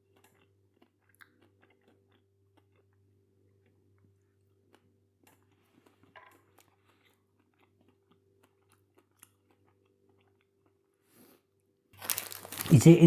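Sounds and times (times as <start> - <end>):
chocolate chewing crunches: 0.0 - 11.0, 12.0 - 13.0.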